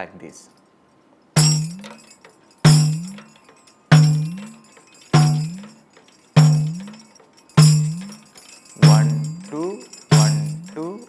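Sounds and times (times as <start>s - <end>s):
tambourine bass strokes: 1.4s - 11.0s.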